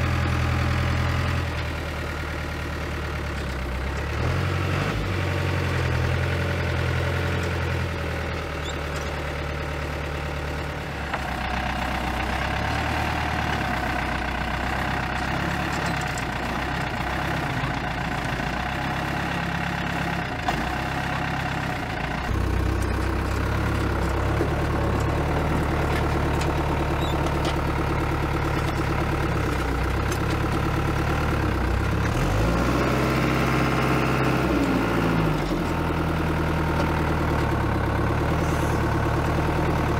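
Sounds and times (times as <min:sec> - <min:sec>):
diesel engine running and revving: 0:00.0 - 0:39.9.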